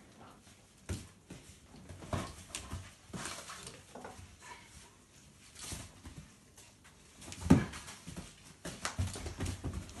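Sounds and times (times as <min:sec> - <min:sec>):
dogs thudding and scuffling: 0:00.7 - 0:04.4, 0:05.5 - 0:10.0.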